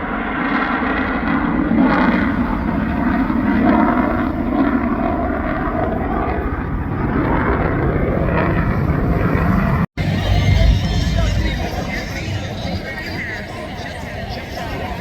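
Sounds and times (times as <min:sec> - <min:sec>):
jet engine roar in flight: 0:00.0 - 0:15.0.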